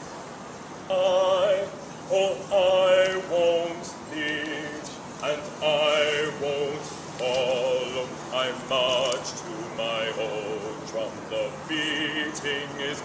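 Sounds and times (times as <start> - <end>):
person singing with vibrato: 0.9 - 13.0.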